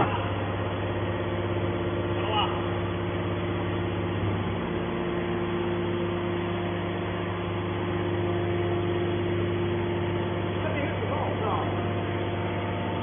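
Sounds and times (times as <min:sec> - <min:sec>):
engine droning hum: 0:00.0 - 0:13.0.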